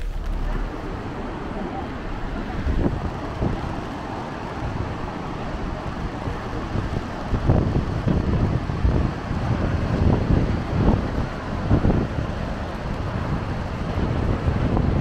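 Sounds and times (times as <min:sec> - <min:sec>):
river rapids roaring: 0:00.0 - 0:15.0
wind buffeting microphone: 0:00.0 - 0:15.0.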